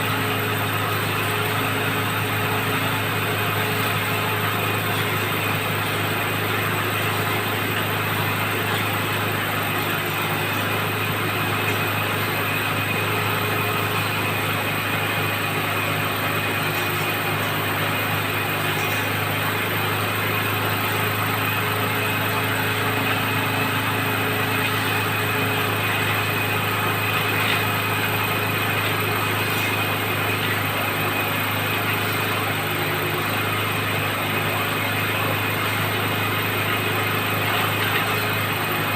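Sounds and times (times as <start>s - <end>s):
drilling rig engine droning: 0.0s - 38.9s.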